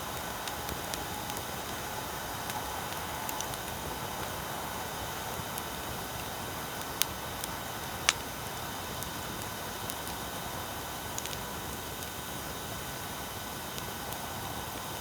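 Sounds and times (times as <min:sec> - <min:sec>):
fire popping: 0:00.0 - 0:15.0
recording hiss: 0:00.0 - 0:15.0
wood fire crackling: 0:00.0 - 0:15.0.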